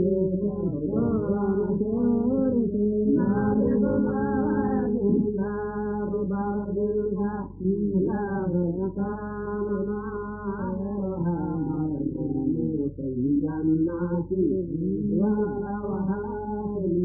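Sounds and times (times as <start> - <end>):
muffled voices chanting: 0.0 - 17.0.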